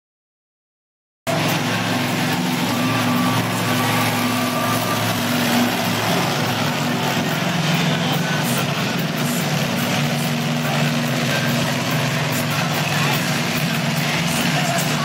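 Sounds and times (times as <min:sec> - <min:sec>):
truck engine idling: 0:01.3 - 0:15.0.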